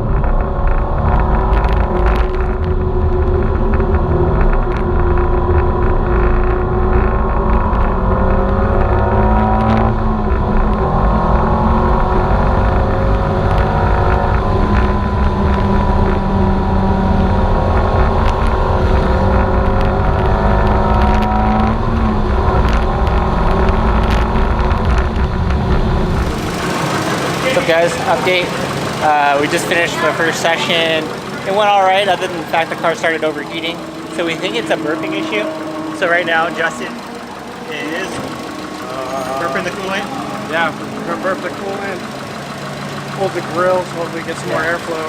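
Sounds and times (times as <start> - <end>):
car engine pulling hard: 0.0 - 45.0
heavy low rumble: 0.0 - 45.0.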